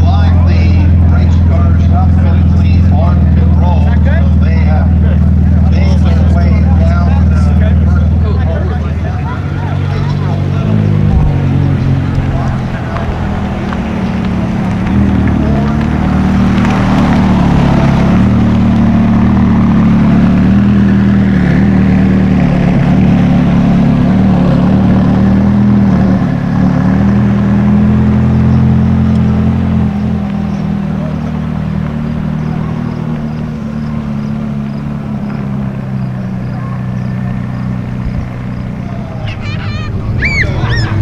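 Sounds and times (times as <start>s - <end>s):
car engine running at low revs: 0.0s - 41.0s.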